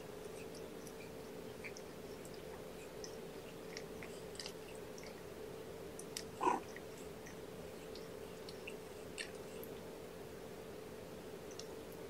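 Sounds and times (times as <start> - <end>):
cat licking kittens: 0.0 - 12.0
steady low hum: 0.0 - 12.0.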